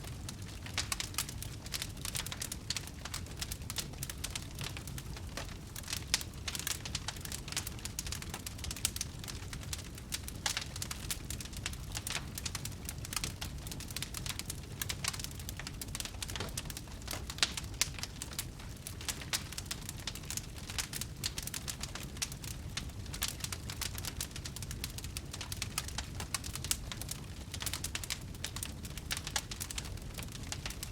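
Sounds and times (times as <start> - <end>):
fire crackling: 0.0 - 30.9.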